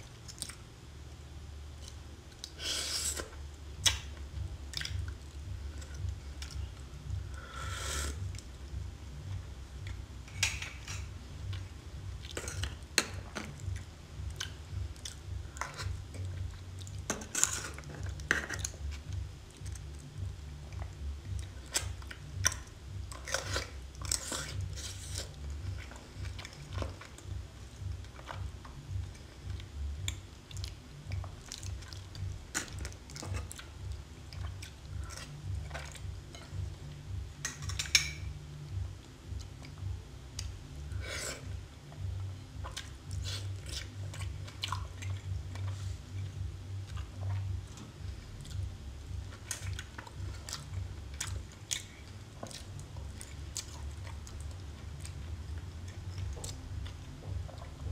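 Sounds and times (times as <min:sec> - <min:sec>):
steady low hum: 0:00.0 - 0:57.9
wet chewing and mouth smacks: 0:01.8 - 0:07.2, 0:09.3 - 0:37.8, 0:41.4 - 0:57.9.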